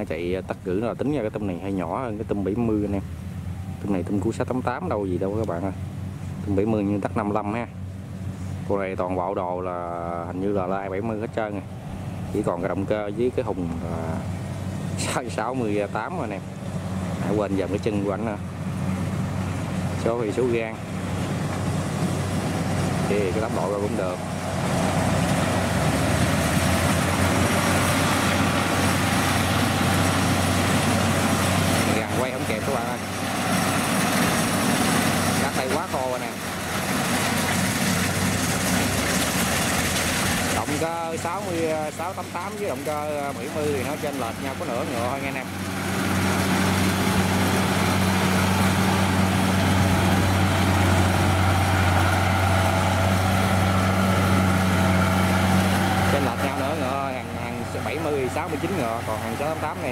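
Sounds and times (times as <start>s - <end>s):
combine harvester engine under load: 0.0s - 59.9s.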